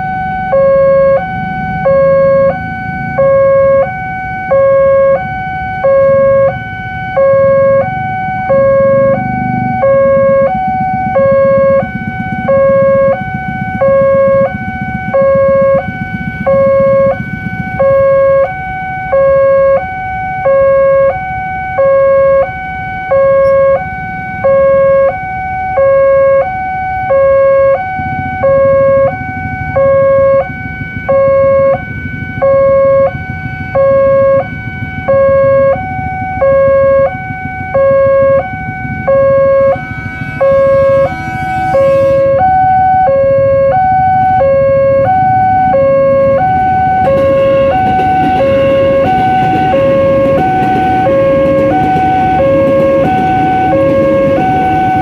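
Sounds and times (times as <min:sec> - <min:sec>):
level crossing two-tone alarm: 0:00.0 - 0:55.0.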